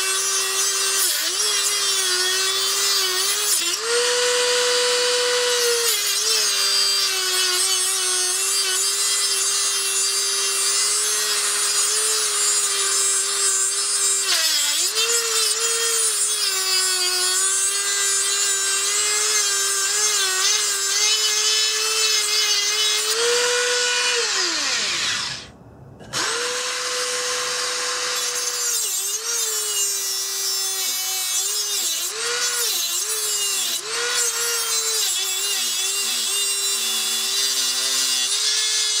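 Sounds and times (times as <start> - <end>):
rotary tool grinding metal: 0.0 - 25.5, 26.1 - 39.0.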